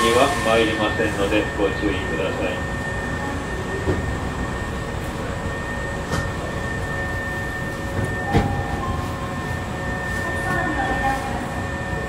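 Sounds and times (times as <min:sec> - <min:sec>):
thin steady whine: 0:00.0 - 0:12.0
train rumble and hum: 0:00.0 - 0:12.0.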